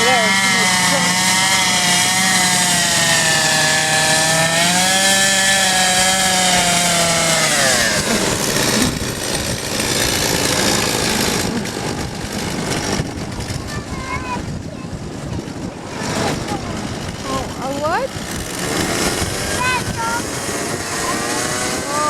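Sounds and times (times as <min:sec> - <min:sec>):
chainsaw running at high revs: 0:00.0 - 0:15.0, 0:15.6 - 0:22.0.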